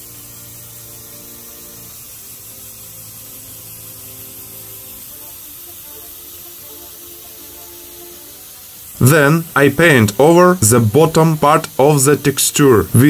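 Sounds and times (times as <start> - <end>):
airbrush spraying hiss: 0.0 - 13.0.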